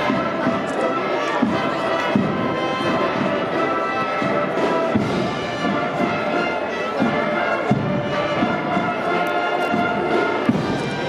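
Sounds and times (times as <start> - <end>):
drum beats: 0.0 - 11.0
procession band playing slow march: 0.0 - 11.0.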